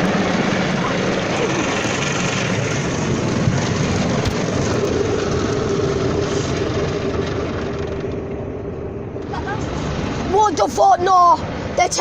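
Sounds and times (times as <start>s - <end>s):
motor hum: 0.0s - 10.8s.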